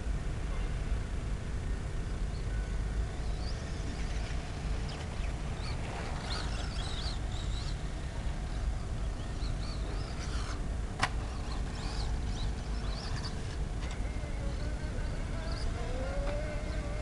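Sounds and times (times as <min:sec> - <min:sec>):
steady low rumble: 0:00.0 - 0:17.0
small birds chirping: 0:02.0 - 0:17.0.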